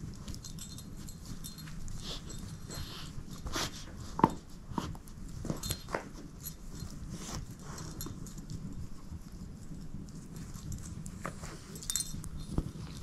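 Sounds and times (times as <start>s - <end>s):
dog chewing a plush toy: 0.0s - 13.0s.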